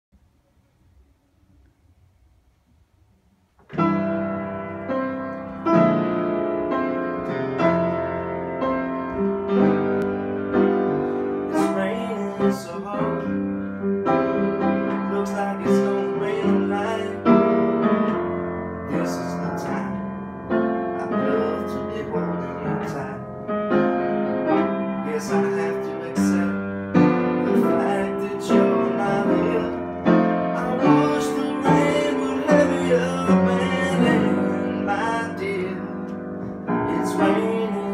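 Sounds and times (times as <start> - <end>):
piano playing chords: 3.6 - 37.9.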